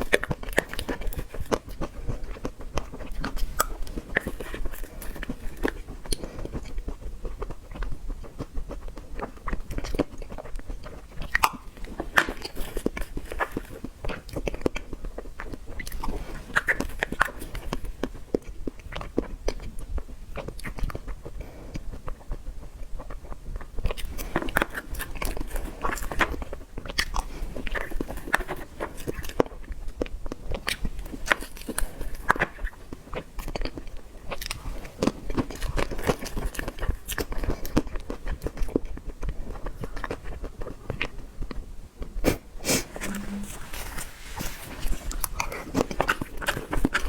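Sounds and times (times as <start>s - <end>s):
person chewing dessert: 0.0s - 47.0s.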